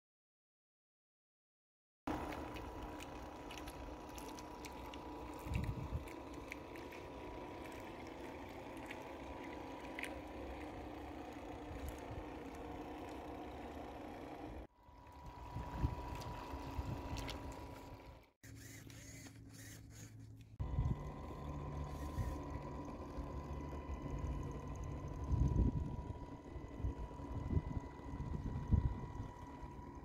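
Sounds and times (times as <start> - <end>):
motor humming with whine: 2.1 - 30.0
water trickling and lapping: 2.1 - 30.0.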